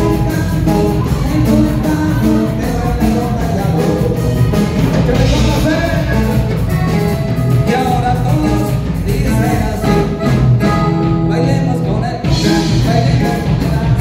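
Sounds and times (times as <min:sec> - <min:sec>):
latin dance music with singer: 0:00.0 - 0:14.0.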